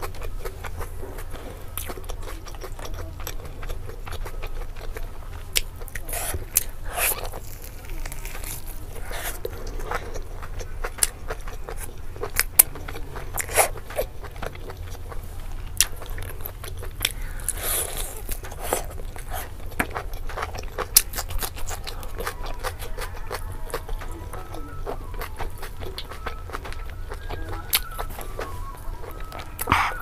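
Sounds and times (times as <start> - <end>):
close-miked eating and chewing: 0.0 - 30.0.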